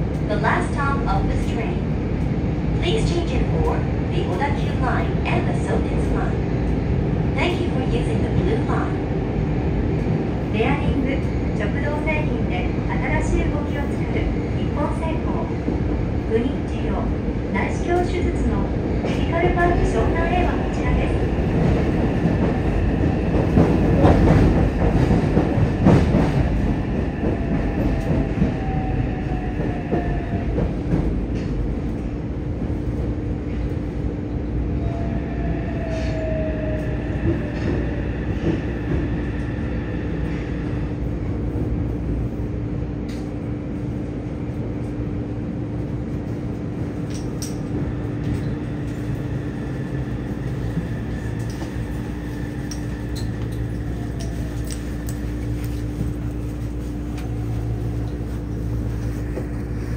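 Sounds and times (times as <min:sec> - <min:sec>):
train wheel and rail rumble: 0:00.0 - 0:59.9.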